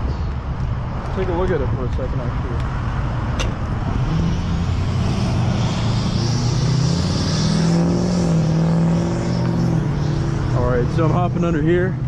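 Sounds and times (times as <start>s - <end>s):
road traffic passing: 0.0s - 12.0s
vehicle engine approaching: 0.0s - 12.0s.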